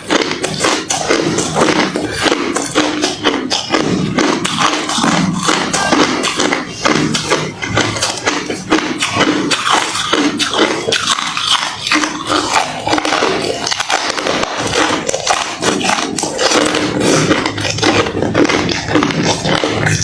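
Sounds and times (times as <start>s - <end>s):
crunchy ice being chewed: 0.0s - 20.0s.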